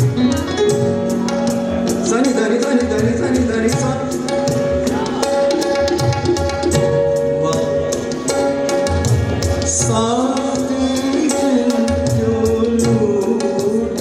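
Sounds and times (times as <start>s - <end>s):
harmonium and keyboard chords: 0.0s - 14.0s
tabla playing: 0.0s - 14.0s.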